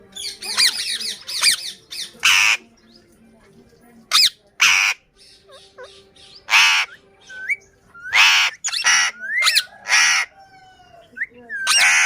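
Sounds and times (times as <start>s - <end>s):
parrot squawking: 0.2s - 2.6s, 4.1s - 12.0s.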